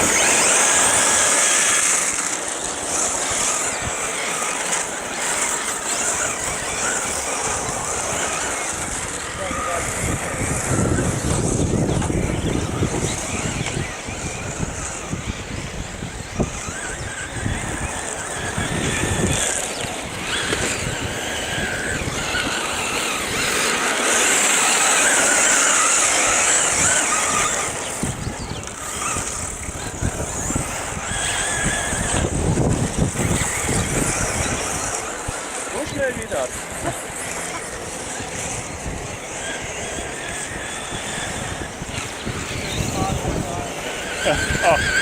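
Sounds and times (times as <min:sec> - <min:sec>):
electric motors whining: 0:00.0 - 0:45.0.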